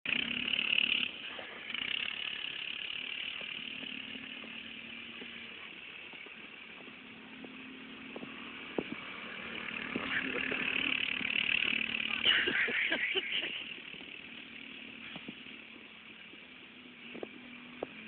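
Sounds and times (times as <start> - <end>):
distant small vehicle engine: 0.1 - 18.0.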